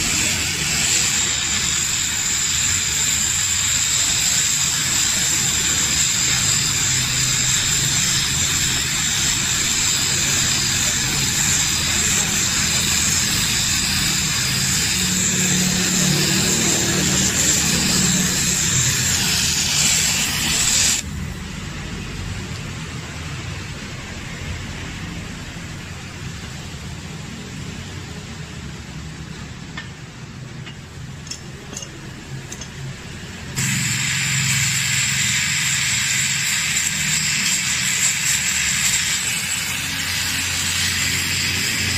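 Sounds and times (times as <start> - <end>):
gas torch flame hissing: 0.0 - 41.9.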